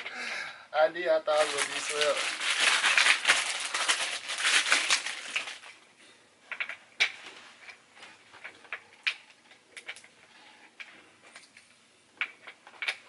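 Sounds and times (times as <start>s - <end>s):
rustling handling noise: 1.2s - 13.0s.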